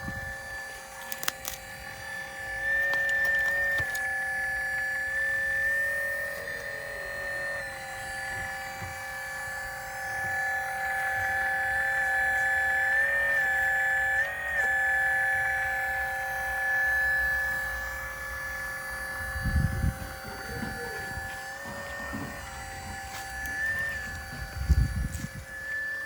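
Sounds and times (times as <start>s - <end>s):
hydraulic pump whining: 0.0s - 26.0s.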